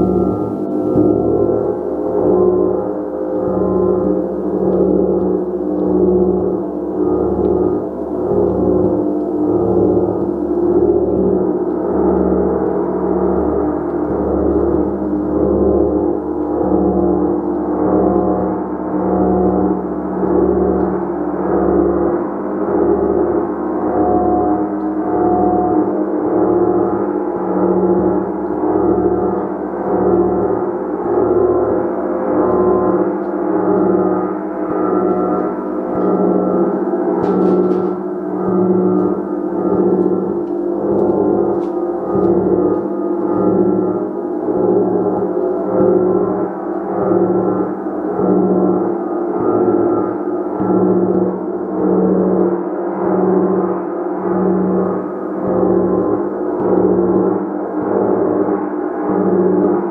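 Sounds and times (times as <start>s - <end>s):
gong strokes: 0.0s - 59.9s.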